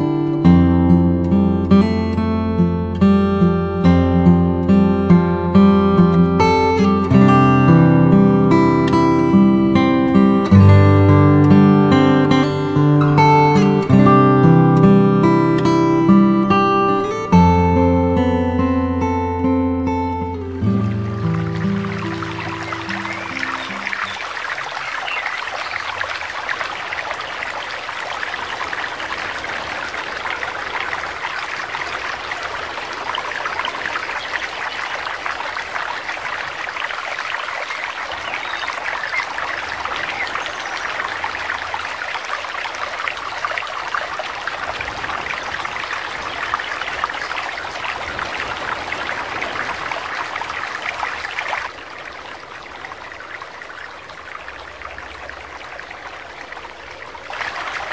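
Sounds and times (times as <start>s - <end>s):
stream cascading over rocks: 1.7s - 57.9s.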